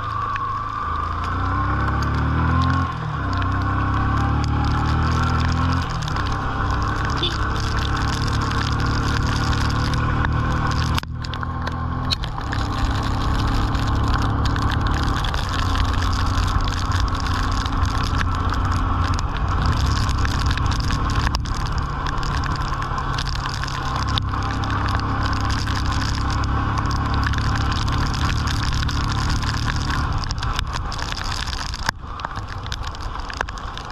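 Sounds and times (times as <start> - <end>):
motorcycle engine running: 0.0 - 33.9
wind and rain noise: 0.0 - 33.9.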